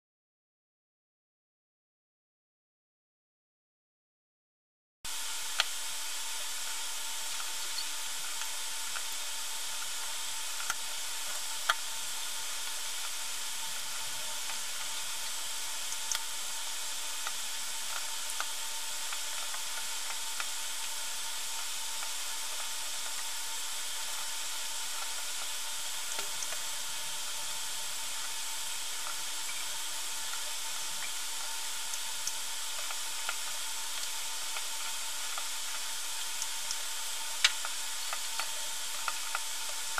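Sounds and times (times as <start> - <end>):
background recording hiss: 5.1 - 39.9
faint hum-like tone: 5.1 - 39.9.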